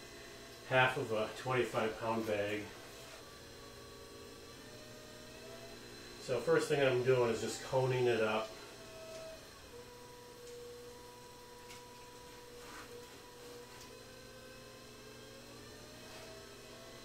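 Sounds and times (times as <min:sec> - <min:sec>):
pottery wheel motor whine: 0:00.0 - 0:17.0.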